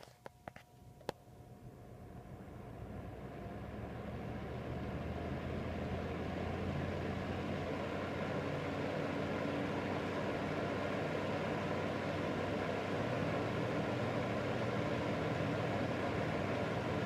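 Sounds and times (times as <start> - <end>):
heater fan spinning: 0.0 - 17.0.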